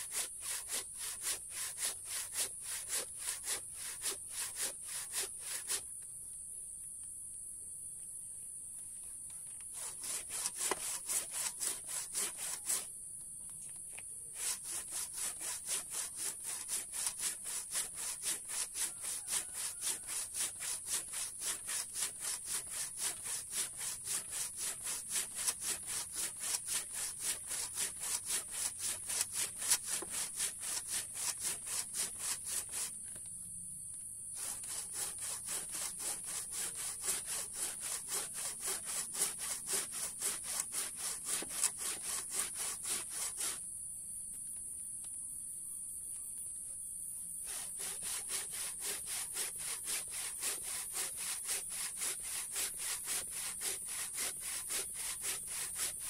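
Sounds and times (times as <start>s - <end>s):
handsaw cutting wood: 0.0s - 5.8s, 9.7s - 12.9s, 14.3s - 33.0s, 34.4s - 43.6s, 47.4s - 56.0s.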